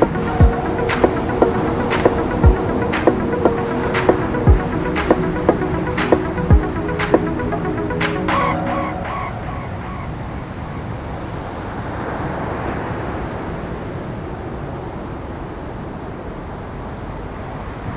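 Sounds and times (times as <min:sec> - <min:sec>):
ocean surf on rocky beach: 0:00.0 - 0:17.9.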